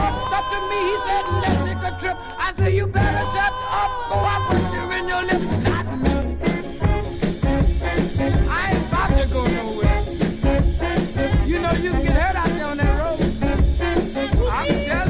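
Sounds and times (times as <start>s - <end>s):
rhythm and blues band music: 0.0s - 15.0s.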